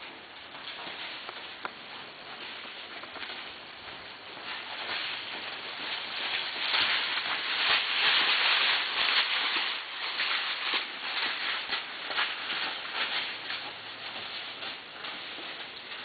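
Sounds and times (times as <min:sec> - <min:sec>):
hoofbeats on soft dirt: 0:00.0 - 0:16.0.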